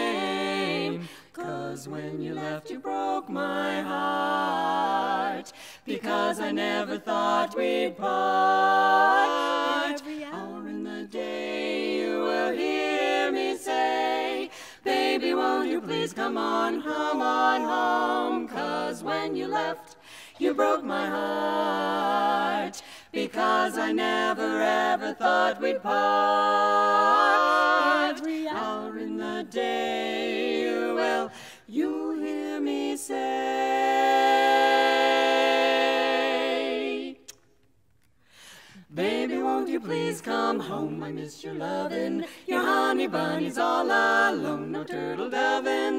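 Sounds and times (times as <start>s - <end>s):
women singing a cappella harmony: 0.0s - 37.4s, 38.5s - 45.9s.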